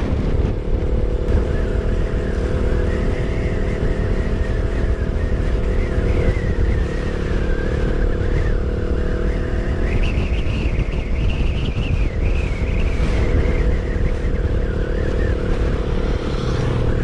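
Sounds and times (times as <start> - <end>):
high wavering whine: 0.0 - 17.0
motorcycle engine cruising: 0.0 - 17.0
wind rumble on microphone: 0.0 - 17.0.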